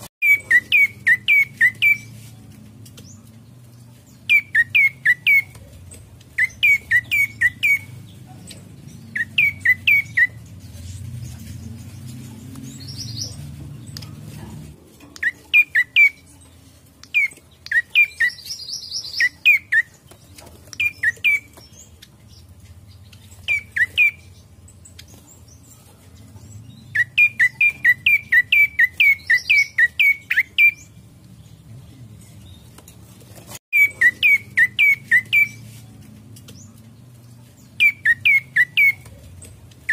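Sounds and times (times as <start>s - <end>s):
songbird chirping: 0.2s - 39.9s.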